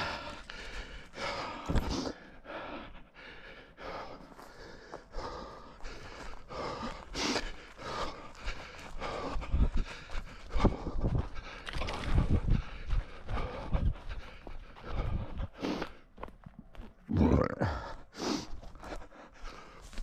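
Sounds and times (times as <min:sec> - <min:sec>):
runner breathing: 0:00.0 - 0:20.0
running footsteps: 0:00.0 - 0:20.0.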